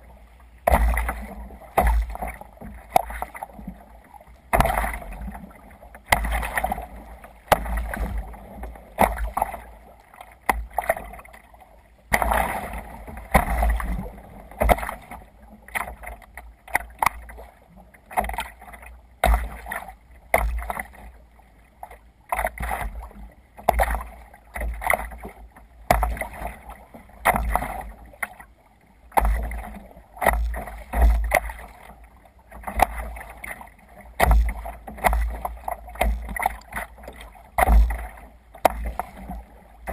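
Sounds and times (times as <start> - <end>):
water splashing around kayak: 0.0 - 39.9.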